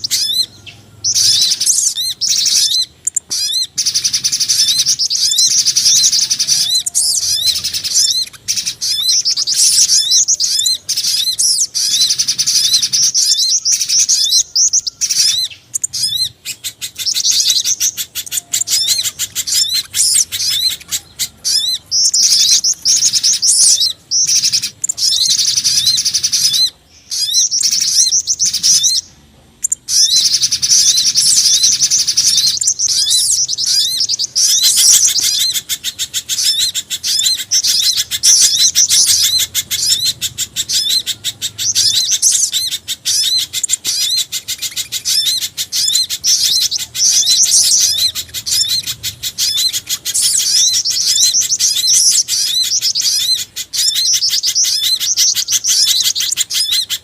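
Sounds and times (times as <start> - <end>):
rapid high bird chirps: 0.0 - 57.0.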